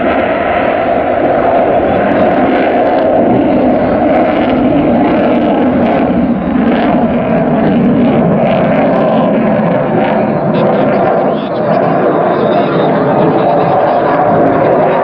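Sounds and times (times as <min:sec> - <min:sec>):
fighter jet engines roaring: 0:00.0 - 0:15.0.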